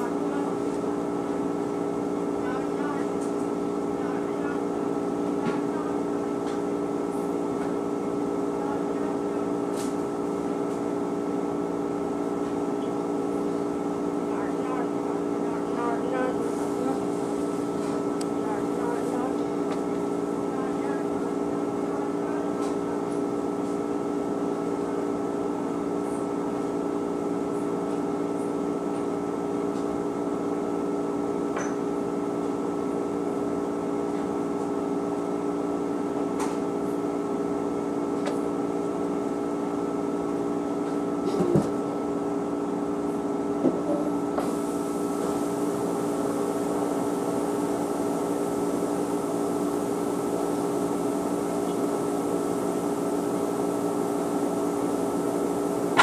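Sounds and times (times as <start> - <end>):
laundry machine humming: 0.0 - 56.0.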